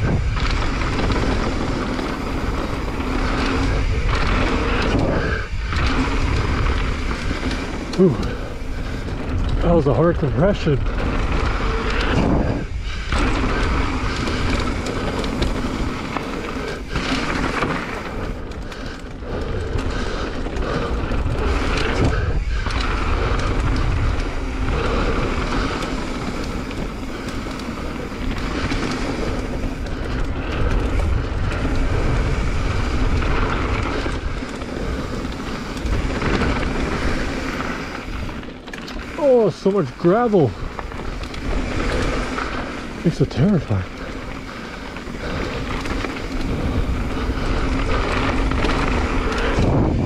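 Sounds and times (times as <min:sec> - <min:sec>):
bike rattling: 0:00.0 - 0:50.0
tyres on dirt and gravel: 0:00.0 - 0:50.0
wind rumble on microphone: 0:00.0 - 0:50.0.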